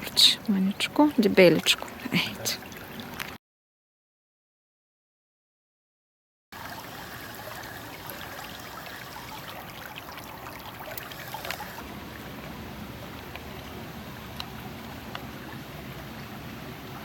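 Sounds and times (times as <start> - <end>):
river rushing and trickling: 0.0 - 3.4, 6.6 - 17.0.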